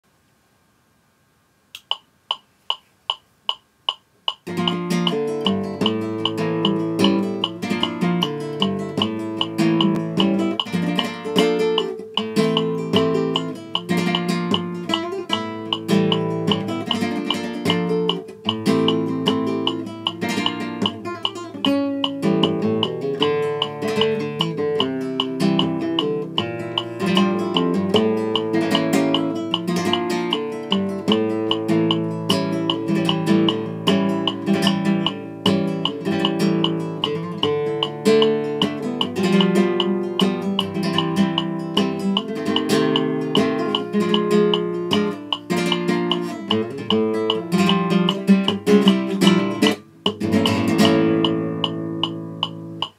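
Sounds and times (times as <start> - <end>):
evenly spaced clicks: 1.8 - 52.9
flamenco guitar playing: 4.3 - 52.9.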